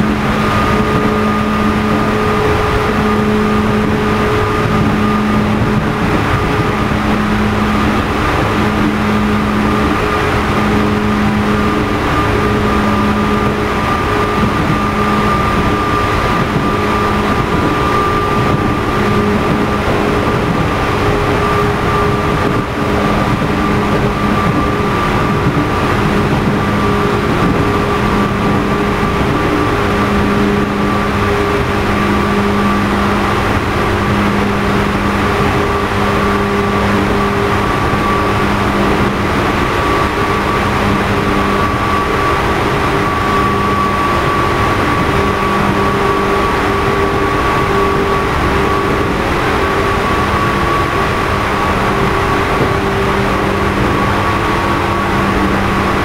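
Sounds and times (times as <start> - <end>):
high-pitched traction motor hum: 0.0 - 56.0
lower train hum: 0.0 - 56.0
wheel and rail noise: 0.0 - 56.0.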